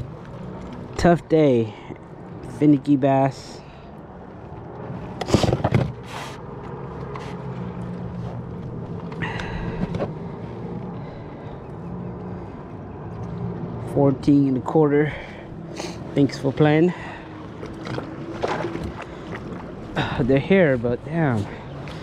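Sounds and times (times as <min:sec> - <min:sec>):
trolling motor hum: 0:00.0 - 0:22.0.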